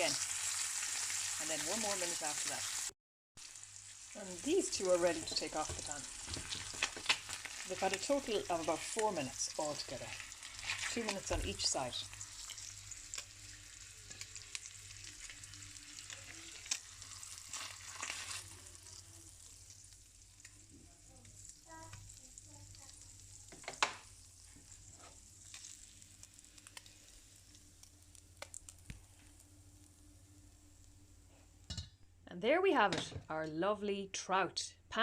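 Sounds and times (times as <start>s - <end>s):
fish sizzling in a pan: 0.0s - 31.6s.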